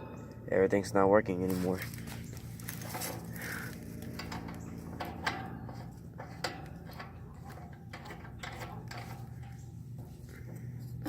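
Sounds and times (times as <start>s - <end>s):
steady low hum: 0.0s - 11.0s
metal parts clicking and tapping: 2.0s - 11.0s.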